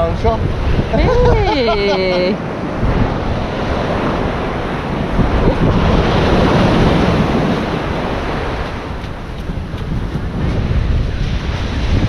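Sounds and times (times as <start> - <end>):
ocean surf breaking on shore: 0.0 - 12.0
wind buffeting microphone: 0.0 - 12.0.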